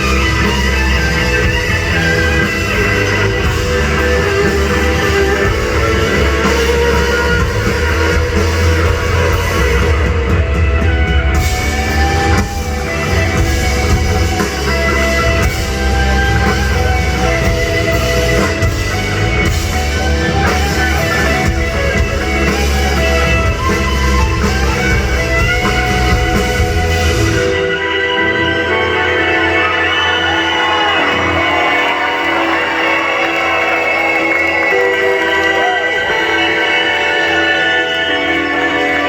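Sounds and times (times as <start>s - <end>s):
electric guitar: 0.0s - 39.0s
live rock band playing: 0.0s - 39.0s.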